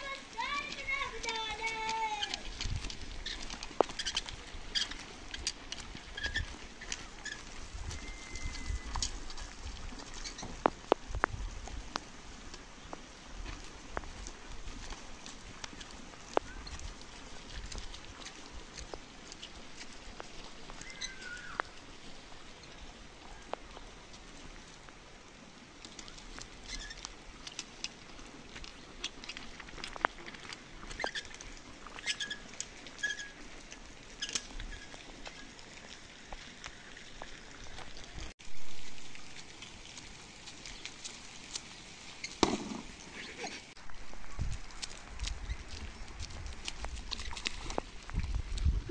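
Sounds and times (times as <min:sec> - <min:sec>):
rain pattering on a roof: 0:00.0 - 0:48.9.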